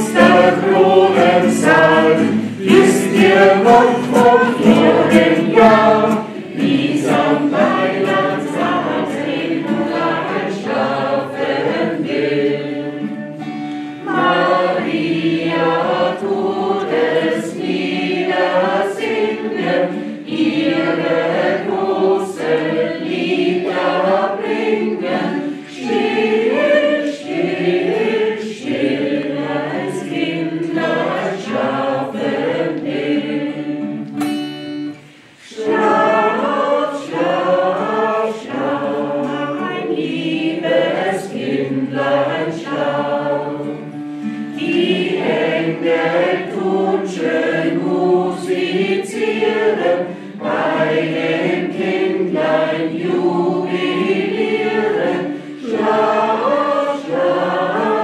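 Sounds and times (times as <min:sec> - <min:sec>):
group of people singing: 0:00.0 - 0:34.2, 0:34.9 - 0:58.0
strummed acoustic guitar: 0:00.0 - 0:52.4.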